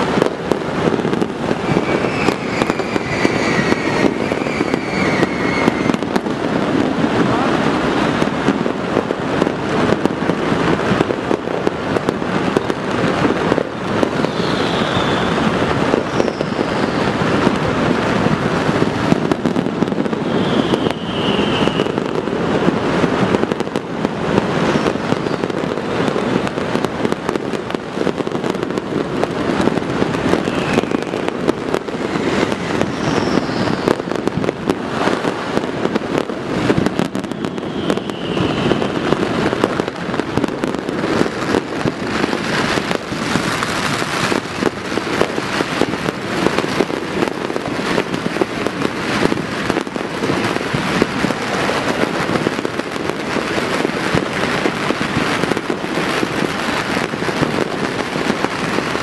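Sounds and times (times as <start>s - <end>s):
firework whistles: 0.0s - 59.0s
fireworks crackling and popping: 0.0s - 59.0s.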